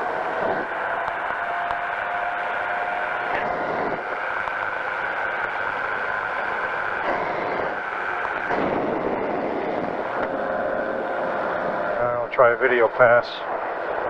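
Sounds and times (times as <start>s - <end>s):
engine and propeller droning: 0.0s - 14.0s.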